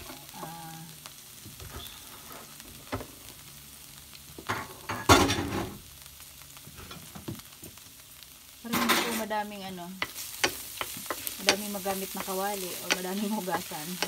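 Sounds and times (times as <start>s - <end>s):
garlic sizzling in hot oil: 0.0s - 14.0s.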